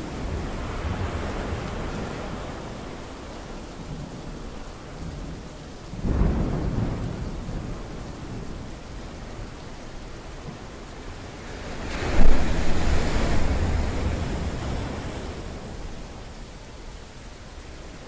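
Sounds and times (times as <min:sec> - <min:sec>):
rushing storm noise: 0:00.0 - 0:18.0.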